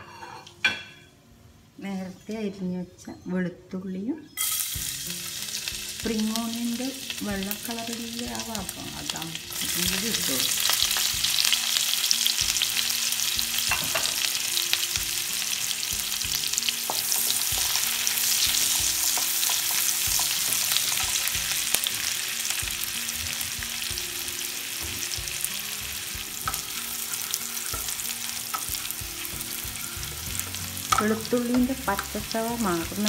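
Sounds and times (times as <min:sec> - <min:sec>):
food sizzling in oil: 0:04.4 - 0:33.0.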